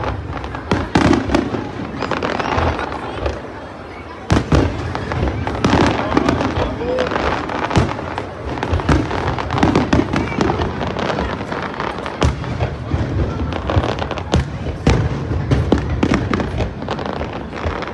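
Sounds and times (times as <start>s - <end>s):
fireworks bangs and crackles: 0.0s - 17.9s
sharp firework bangs: 0.0s - 17.9s.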